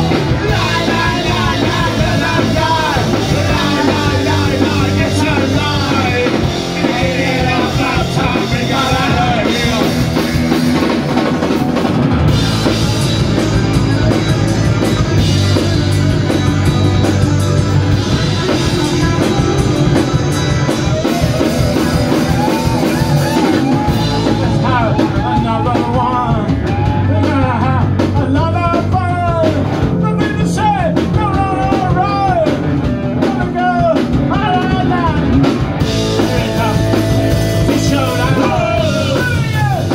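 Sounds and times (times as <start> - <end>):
man singing: 0.0 - 10.9, 12.5 - 35.4, 36.0 - 39.9
punk rock band playing: 0.0 - 39.9.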